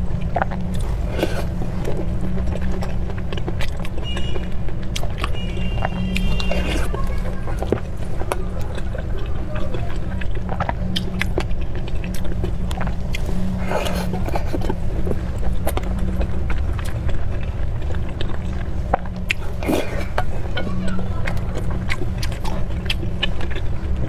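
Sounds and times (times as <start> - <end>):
low rumble: 0.0 - 24.0
person chewing food: 0.0 - 24.0.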